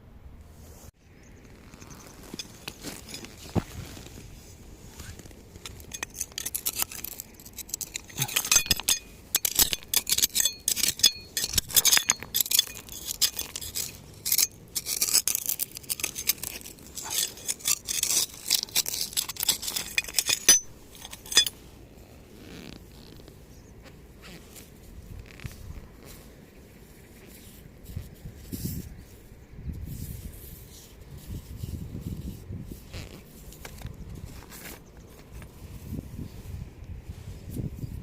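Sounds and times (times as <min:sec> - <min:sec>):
stones clinking and scraping: 0:01.4 - 0:26.3, 0:29.9 - 0:36.0.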